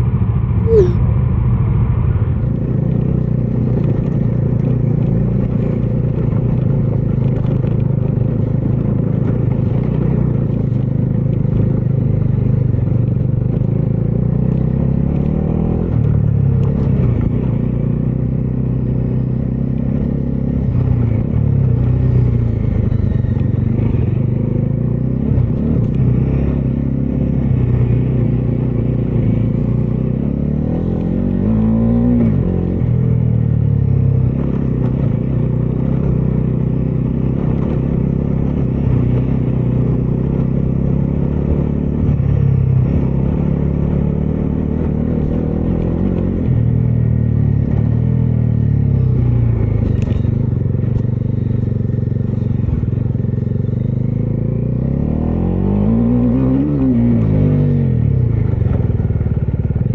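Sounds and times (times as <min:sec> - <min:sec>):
motorcycle engine revving: 0:02.4 - 0:59.9.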